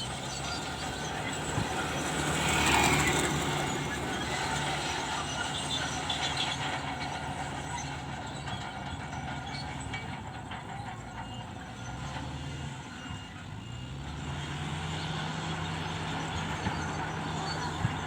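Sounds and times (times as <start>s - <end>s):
heavy machinery diesel engine running: 0.0s - 18.0s.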